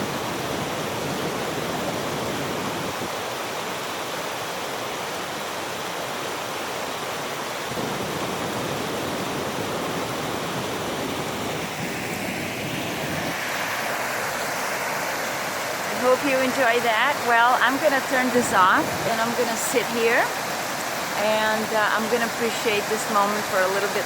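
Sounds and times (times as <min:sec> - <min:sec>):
waterfall pouring and splashing: 0:00.0 - 0:24.0.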